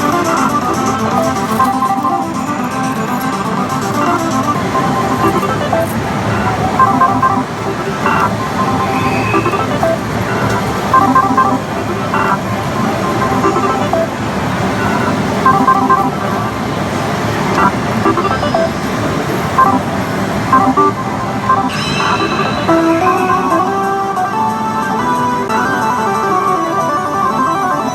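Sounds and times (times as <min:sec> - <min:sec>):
electronic beeps and jingles: 0:00.0 - 0:16.6, 0:17.6 - 0:24.0
guitar music: 0:00.0 - 0:16.7, 0:20.6 - 0:27.9.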